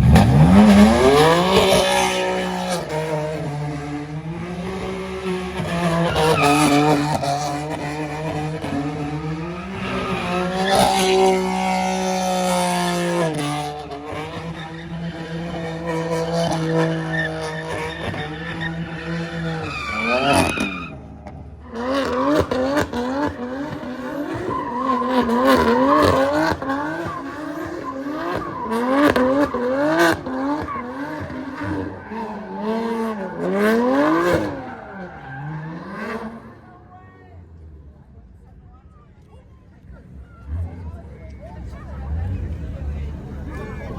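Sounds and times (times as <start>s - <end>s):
car engine revving: 0.0s - 36.9s, 39.8s - 43.9s
tyres skidding: 0.0s - 43.9s.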